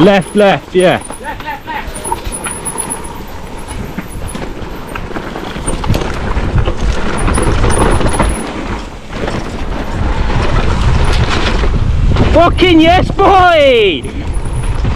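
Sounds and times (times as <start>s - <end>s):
bike rattles and clicks: 0.0s - 14.9s
bike tyres rumbling on dirt: 0.0s - 14.9s
wind on microphone: 1.8s - 14.9s.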